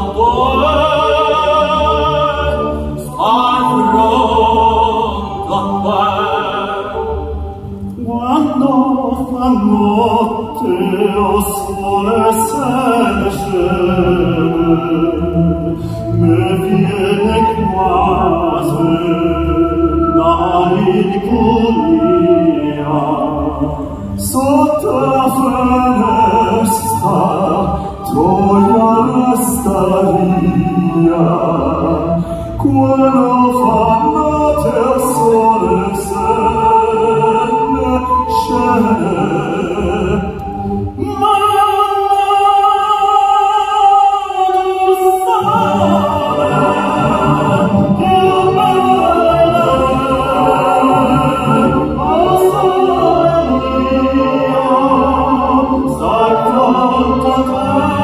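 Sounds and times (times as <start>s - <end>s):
tenor voices singing: 0.0s - 58.0s.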